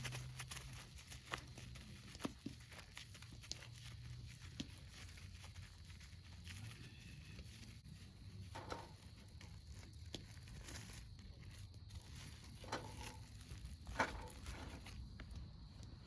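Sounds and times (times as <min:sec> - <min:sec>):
soft crinkling and handling: 0:00.0 - 0:16.0.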